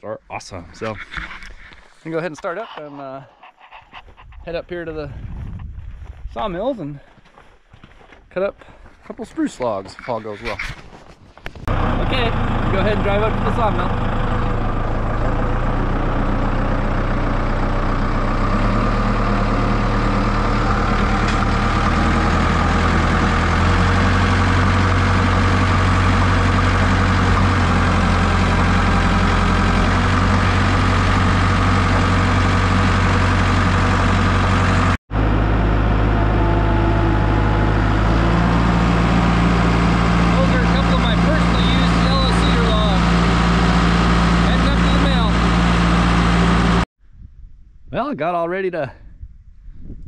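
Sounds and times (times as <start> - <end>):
diesel engine running: 0.4 - 6.7, 11.7 - 46.9.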